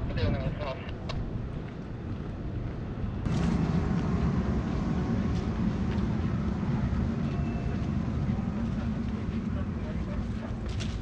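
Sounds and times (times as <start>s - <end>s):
tram running hum and wheel rumble: 1.0s - 11.0s.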